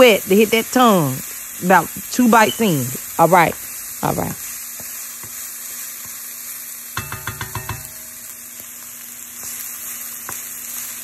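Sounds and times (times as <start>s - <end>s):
oil sizzling while deep-frying: 0.0s - 11.0s.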